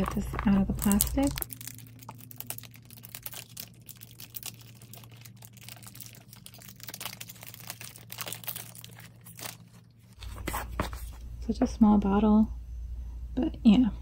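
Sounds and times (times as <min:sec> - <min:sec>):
plastic wrapping crinkling: 0:00.0 - 0:11.2.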